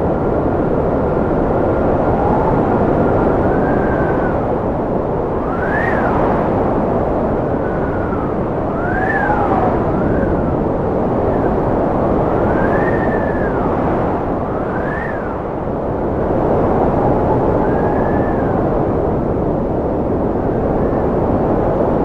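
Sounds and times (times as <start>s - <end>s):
howling wind whistles: 0.0s - 22.0s
strong wind rushing: 0.0s - 22.0s.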